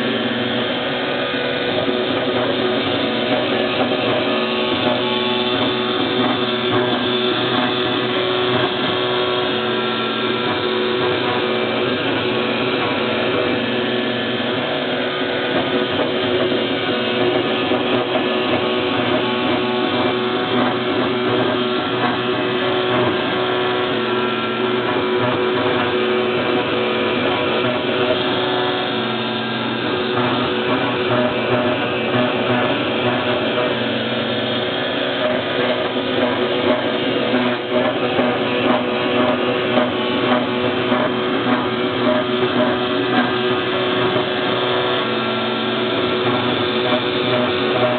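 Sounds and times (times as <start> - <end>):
router spindle whine: 0.0 - 47.9
stepper motor tones: 0.0 - 47.9.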